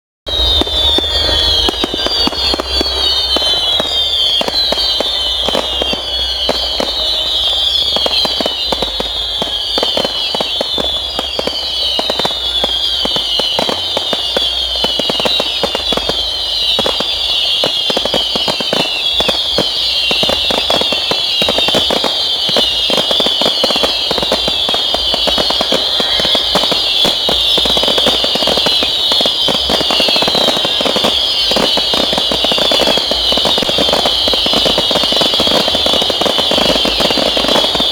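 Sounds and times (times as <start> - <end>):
falling firework whistle: 0.2 - 37.9
fireworks bangs and crackles: 0.2 - 37.9.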